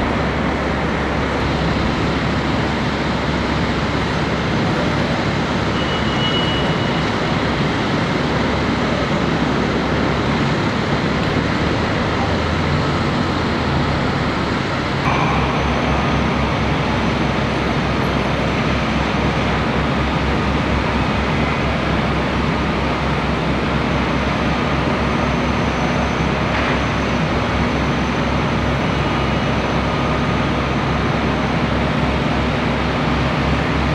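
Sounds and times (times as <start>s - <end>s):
city traffic: 0.0s - 33.9s.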